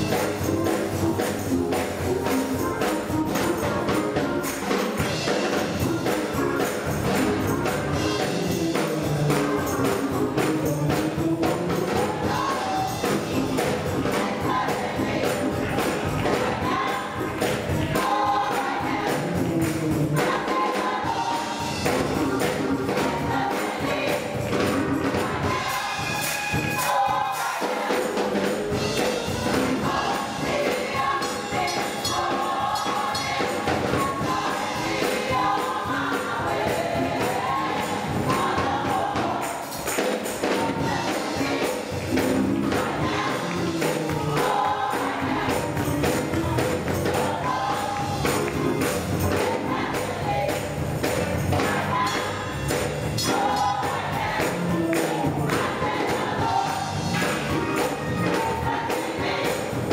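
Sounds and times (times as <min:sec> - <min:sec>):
electric keyboard accompaniment: 0:00.0 - 0:59.9
gospel choir singing: 0:00.0 - 0:59.9
steady percussion beat: 0:00.0 - 0:59.9.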